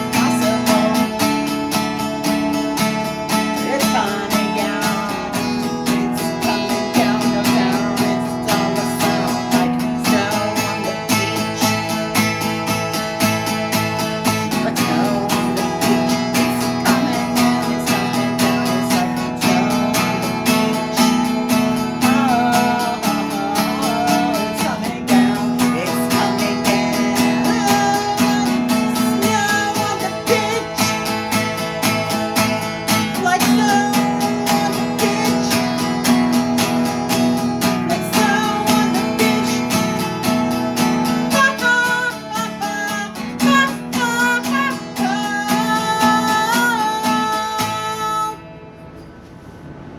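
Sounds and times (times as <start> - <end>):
strummed acoustic guitar: 0.0 - 49.9.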